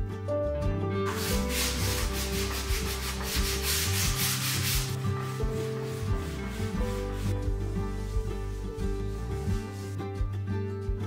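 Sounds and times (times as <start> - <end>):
sandpaper rubbing on wood: 1.1 - 10.0.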